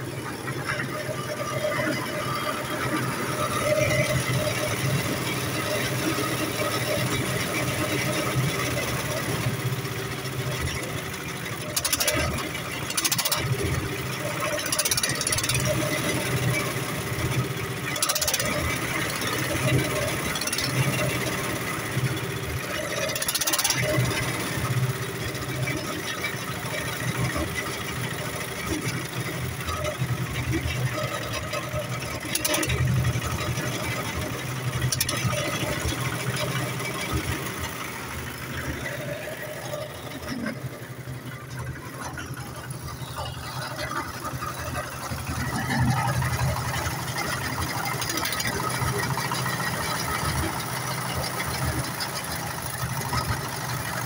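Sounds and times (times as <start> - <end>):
concrete mixer diesel engine: 0.0 - 54.0.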